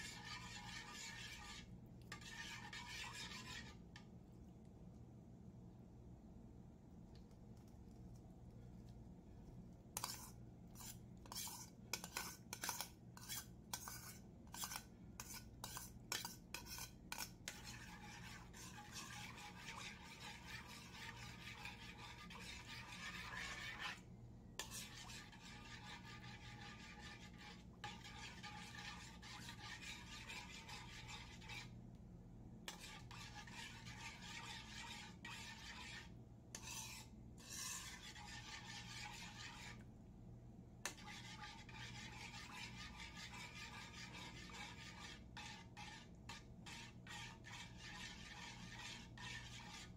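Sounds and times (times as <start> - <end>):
metal spoon scraping metal pan: 0.0 - 3.8, 10.0 - 24.0, 24.6 - 31.7, 32.7 - 39.8, 40.8 - 49.9.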